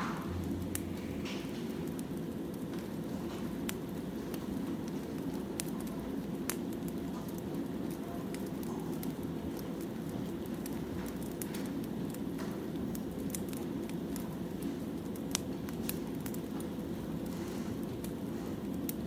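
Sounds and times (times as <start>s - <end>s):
firewood crackling and popping: 0.0s - 19.0s
low rumble of fire: 0.0s - 19.0s.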